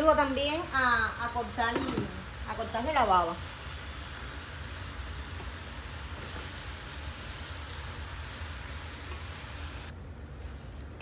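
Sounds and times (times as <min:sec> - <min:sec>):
okra sizzling in hot oil: 0:00.0 - 0:10.0.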